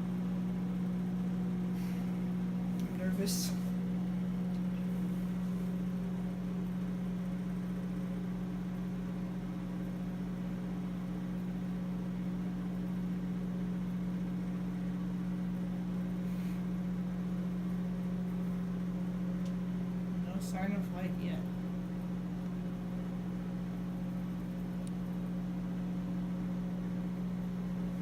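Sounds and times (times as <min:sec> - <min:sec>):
microwave oven humming: 0:00.0 - 0:28.0.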